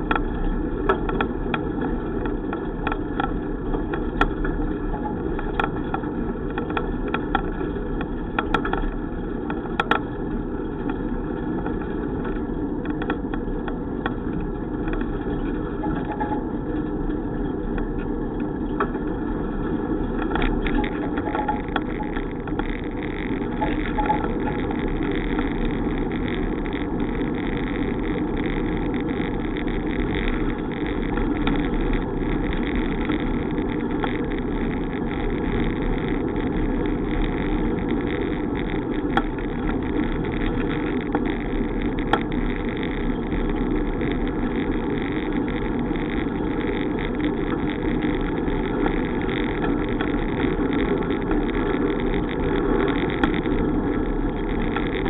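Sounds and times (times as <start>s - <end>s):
bicycle riding rush: 0.0s - 55.0s.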